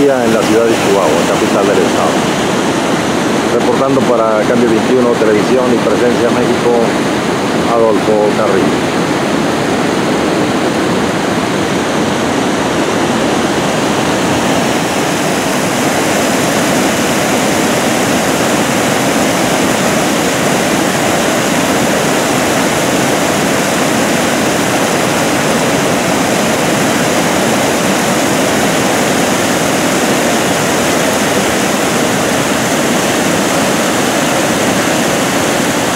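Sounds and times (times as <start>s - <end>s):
floodwater rushing over rocks: 0.0s - 35.9s.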